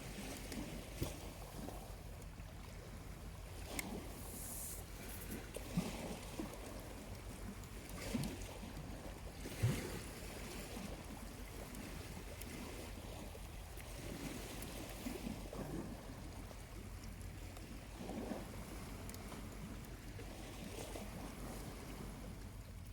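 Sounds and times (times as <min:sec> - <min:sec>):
small waves lapping shoreline: 0:00.0 - 0:22.9.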